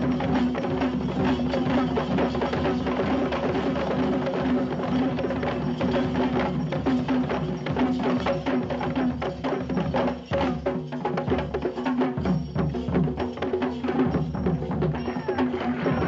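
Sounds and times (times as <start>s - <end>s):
fast drumming: 0.0s - 16.0s.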